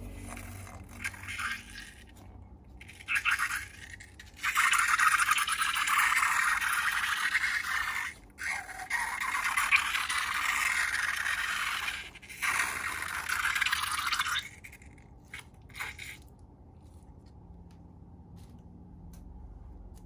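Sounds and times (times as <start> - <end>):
slime squishing and crackling: 0.0 - 16.4.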